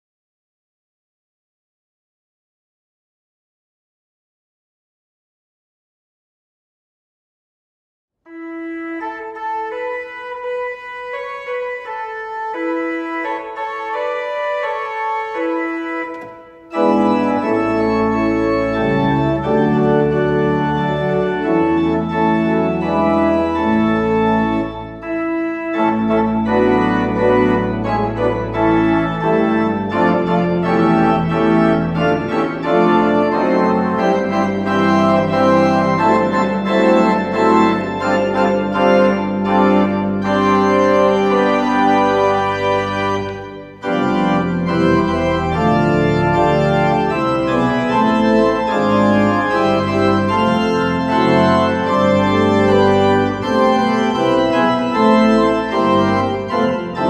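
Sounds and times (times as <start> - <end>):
church organ playing chords: 8.3 - 57.0.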